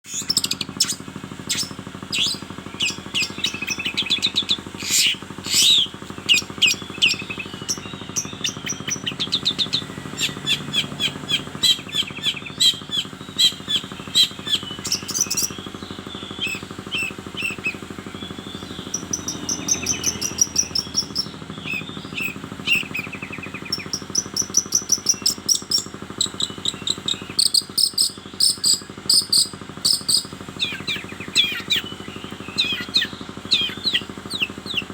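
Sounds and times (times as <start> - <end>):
bird singing chattering song: 0.0 - 34.9.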